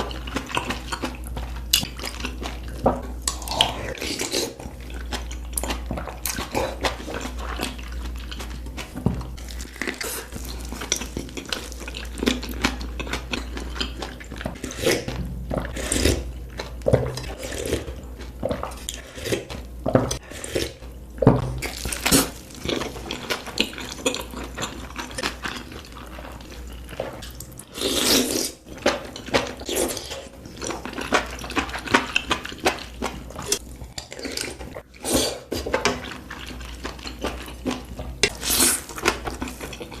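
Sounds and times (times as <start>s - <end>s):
wet chewing and slurping: 0.0s - 20.8s, 21.6s - 40.0s.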